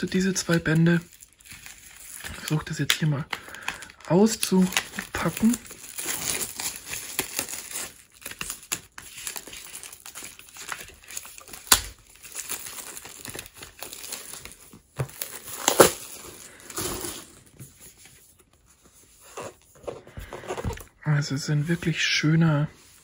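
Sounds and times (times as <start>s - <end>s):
plastic shrink wrap crinkling: 0.0s - 20.9s.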